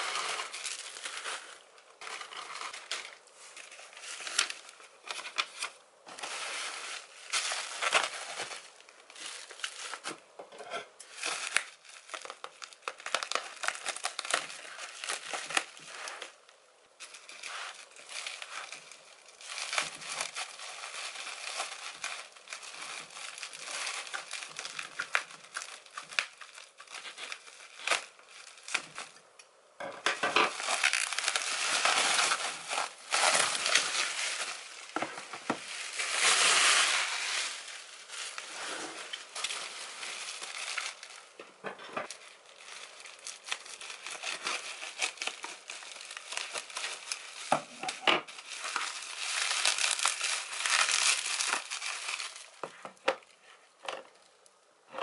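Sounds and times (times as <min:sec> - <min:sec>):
bubble wrap crinkling: 0:00.0 - 0:55.0.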